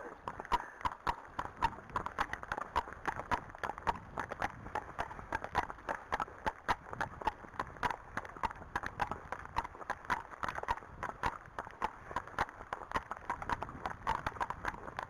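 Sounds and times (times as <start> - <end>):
hooves clip-clopping on tarmac: 0.0 - 15.0.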